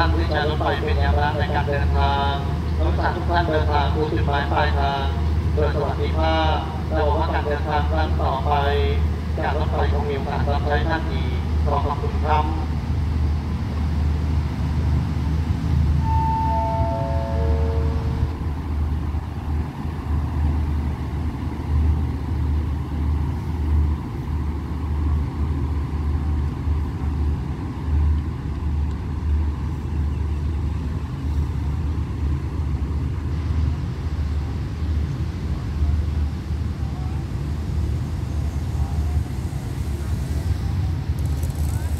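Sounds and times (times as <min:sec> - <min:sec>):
diesel train rumbling: 0:00.0 - 0:41.9.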